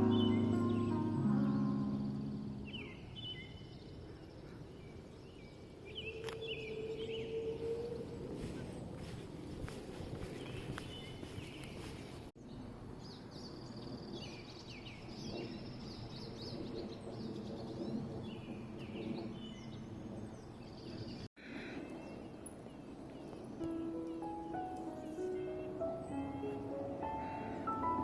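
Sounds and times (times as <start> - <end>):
birds chirping and trilling: 0.0 - 9.0, 10.3 - 28.0.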